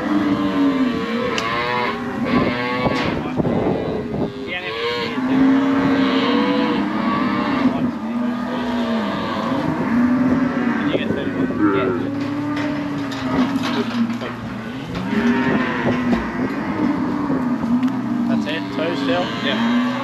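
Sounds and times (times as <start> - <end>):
calves bawling: 0.0 - 20.0.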